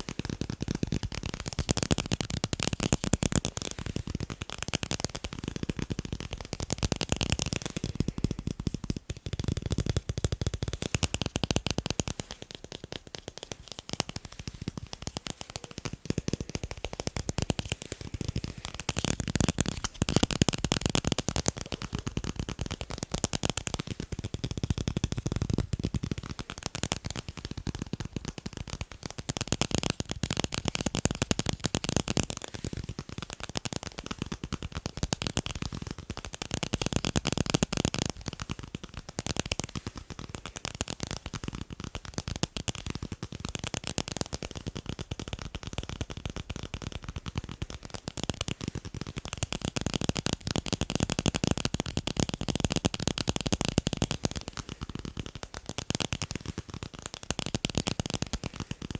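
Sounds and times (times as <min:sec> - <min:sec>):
fast tapping on tape: 0:00.0 - 0:58.9.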